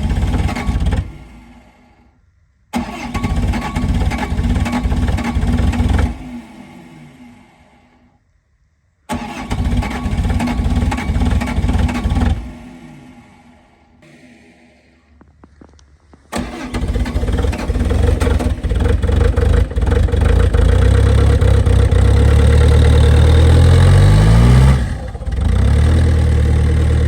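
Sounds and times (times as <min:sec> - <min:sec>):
diesel engine starting and idling: 0:00.0 - 0:08.3, 0:09.1 - 0:27.0.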